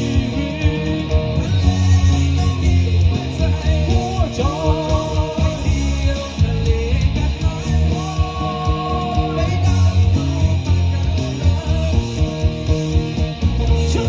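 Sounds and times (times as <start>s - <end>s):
bass guitar: 0.0s - 14.0s
drums with steady beat: 0.0s - 14.0s
electric guitar: 0.0s - 14.0s.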